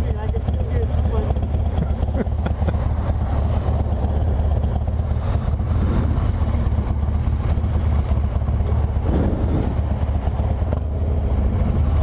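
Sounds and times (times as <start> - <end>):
motorcycle engine rumble: 0.0 - 12.0
road noise: 0.0 - 12.0.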